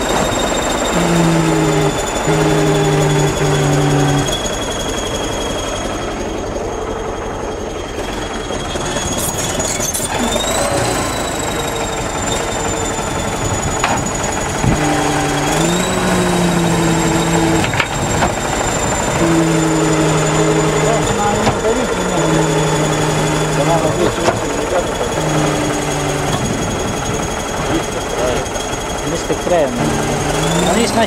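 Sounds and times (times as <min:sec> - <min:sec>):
bulldozer diesel engine rattling: 0:00.0 - 0:31.0
high engine whine: 0:00.0 - 0:31.0.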